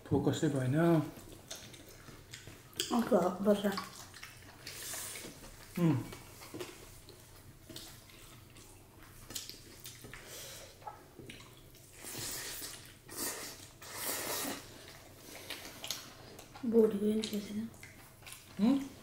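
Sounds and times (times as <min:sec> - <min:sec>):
wet eating noises: 0:00.5 - 0:19.0.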